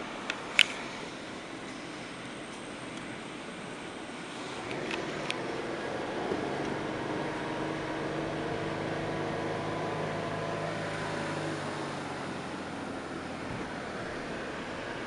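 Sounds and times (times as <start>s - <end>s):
low engine hum: 0.0s - 15.0s
wind and road noise: 0.0s - 15.0s.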